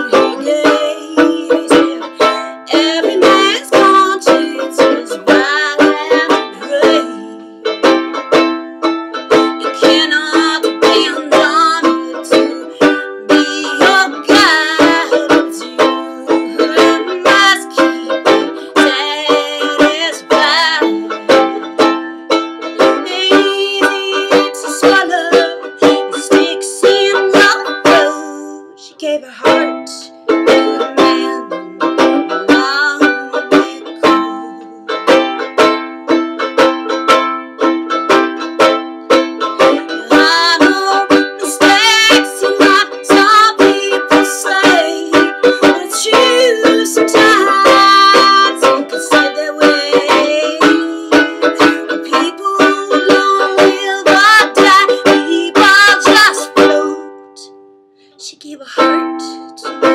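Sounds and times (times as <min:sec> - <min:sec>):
woman singing: 0:00.0 - 0:07.7, 0:09.3 - 0:22.0, 0:22.6 - 0:34.9, 0:39.4 - 0:59.9
banjolele strumming: 0:00.0 - 0:59.9.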